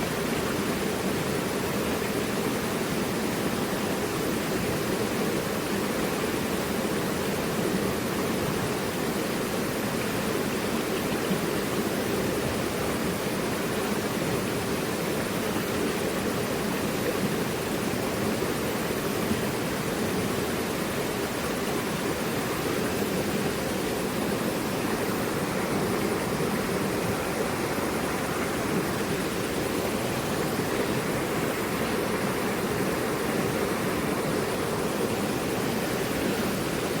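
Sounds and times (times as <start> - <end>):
river rushing over rocks: 0.0 - 37.0.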